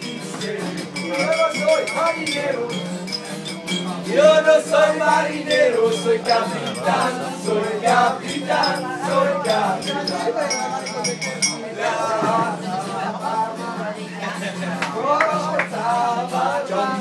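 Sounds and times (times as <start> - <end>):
young men singing together: 0.0 - 17.0.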